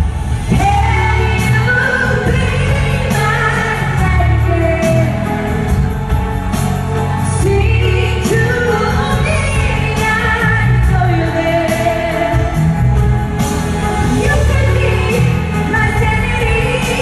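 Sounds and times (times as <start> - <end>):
pop band with heavy bass: 0.0 - 17.0
woman singing: 0.4 - 6.2, 7.2 - 13.1, 14.0 - 17.0.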